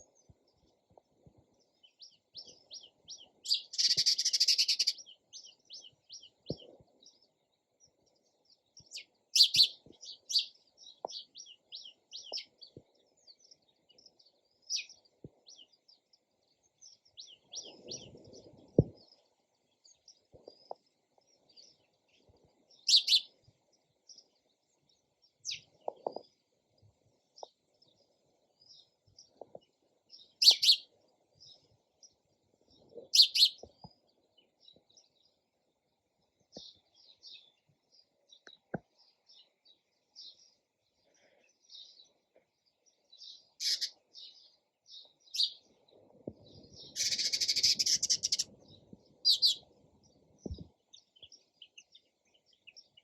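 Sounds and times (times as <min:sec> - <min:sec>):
sparrows chirping: 0:00.0 - 0:53.0.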